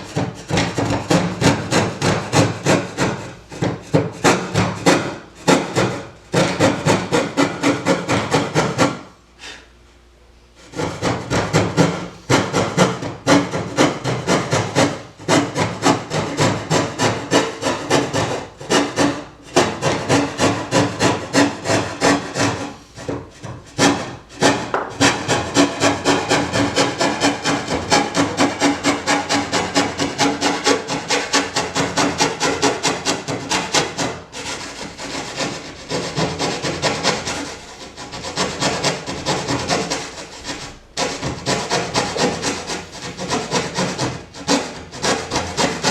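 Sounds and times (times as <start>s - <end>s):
hand saw cutting wood: 0.0s - 9.6s, 10.6s - 45.9s.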